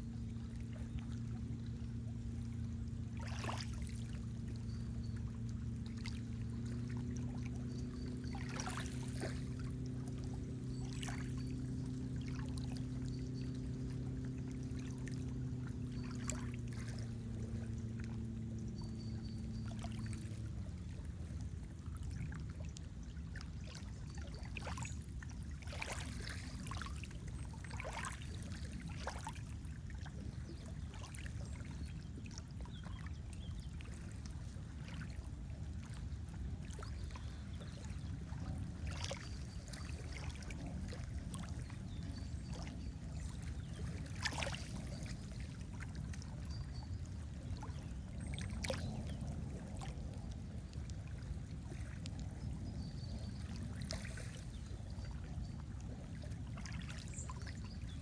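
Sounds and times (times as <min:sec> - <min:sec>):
boat motor hum: 0:00.0 - 0:58.0
lake water lapping and splashing: 0:00.0 - 0:58.0.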